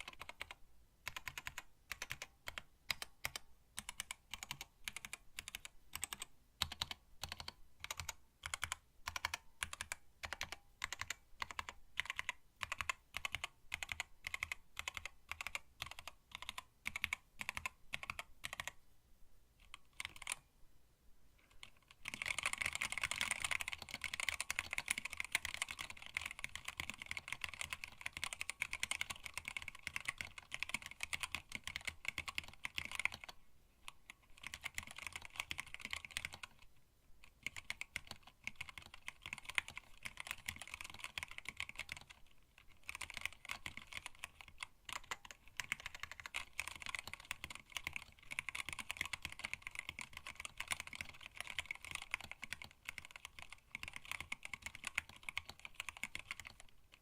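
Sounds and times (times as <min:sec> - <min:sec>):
mechanical keyboard typing: 0:00.0 - 0:18.8, 0:19.6 - 0:20.5, 0:21.5 - 0:57.0.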